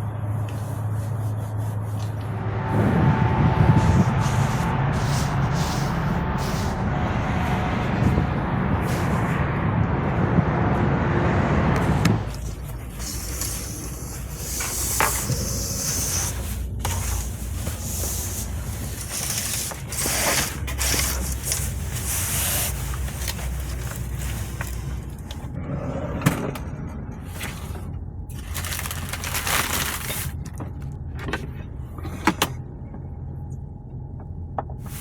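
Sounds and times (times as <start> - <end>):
truck engine rumbling: 0.0 - 35.0.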